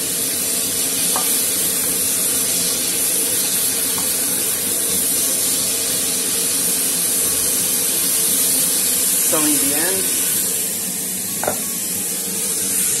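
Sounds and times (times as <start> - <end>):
spatula stirring in a wok: 0.0 - 11.2
food sizzling in a wok: 0.0 - 13.0.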